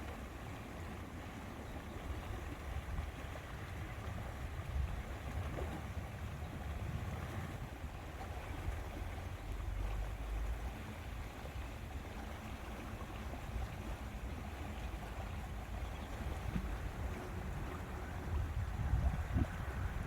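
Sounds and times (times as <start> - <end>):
wind rumble on microphone: 0.8 - 20.0.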